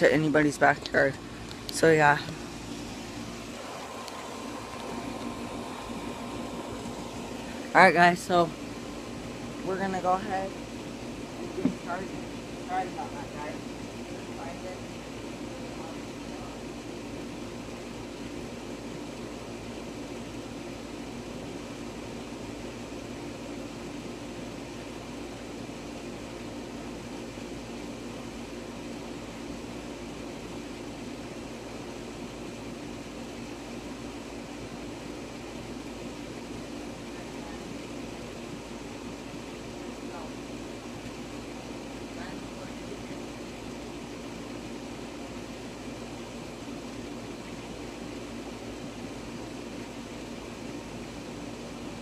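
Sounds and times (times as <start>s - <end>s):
steady droning noise: 0.0s - 52.0s
steady low hum: 0.0s - 52.0s.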